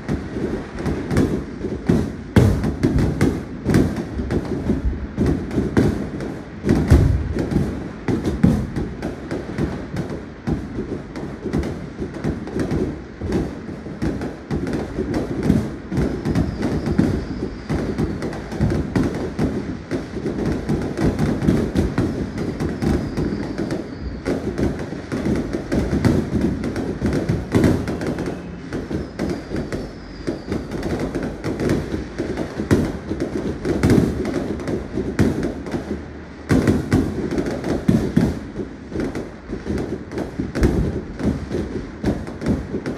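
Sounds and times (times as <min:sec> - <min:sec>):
falling firework whistles: 0:00.0 - 0:42.9
fireworks bangs and crackling: 0:00.0 - 0:42.9.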